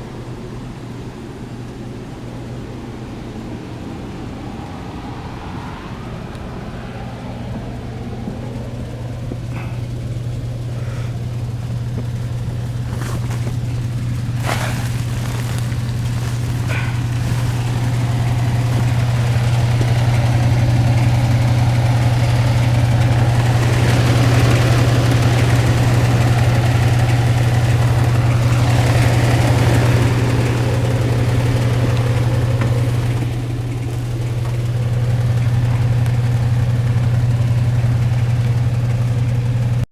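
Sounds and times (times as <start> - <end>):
hvac unit low hum: 0.0 - 39.8.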